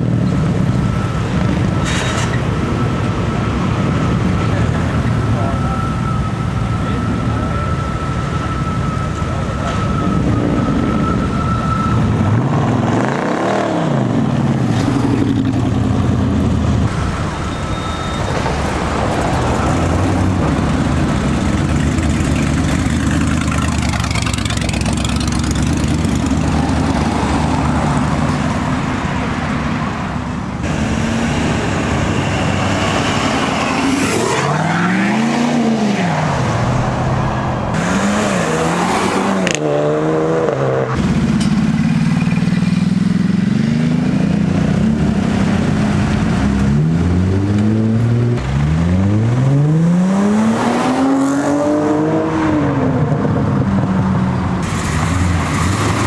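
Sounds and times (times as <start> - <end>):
cars accelerating past: 6.4 - 16.9, 17.9 - 56.0.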